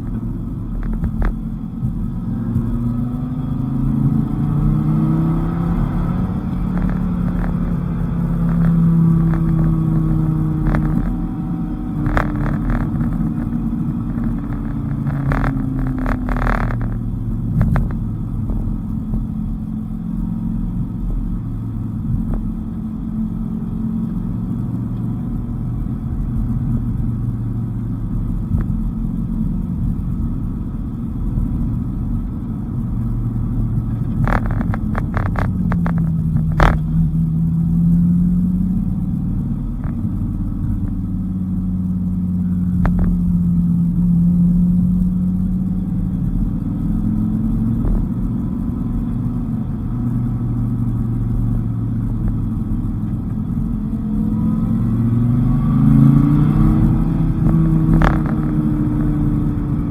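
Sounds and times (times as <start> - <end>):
car engine revving: 0.0 - 59.9
low road rumble: 0.0 - 59.9.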